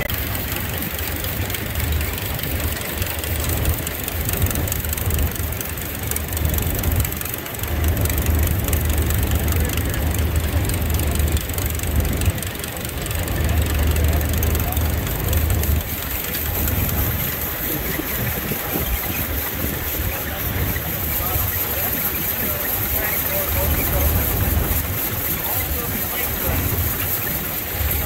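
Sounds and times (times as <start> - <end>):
farm machinery engine rumbling: 0.0 - 28.0.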